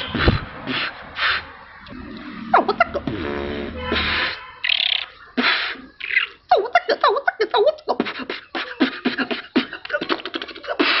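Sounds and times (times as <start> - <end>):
beatboxing: 0.1 - 11.0.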